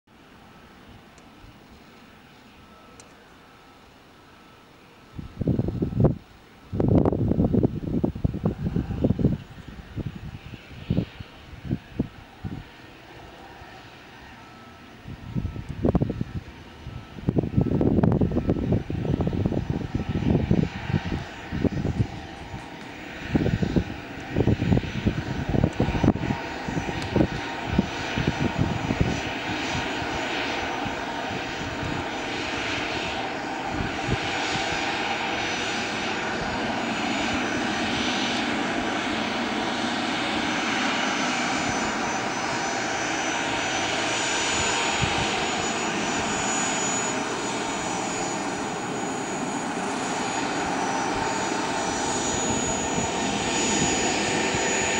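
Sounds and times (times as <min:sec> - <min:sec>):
jet engines whining: 0:00.1 - 0:54.9
wind buffeting microphone: 0:05.1 - 0:12.9, 0:15.0 - 0:54.9.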